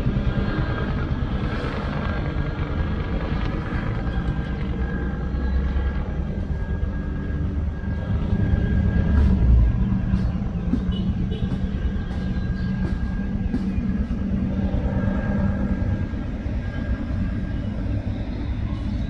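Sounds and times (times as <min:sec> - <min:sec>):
helicopter high whine: 0:00.0 - 0:19.0
helicopter rotor chop: 0:00.0 - 0:19.0.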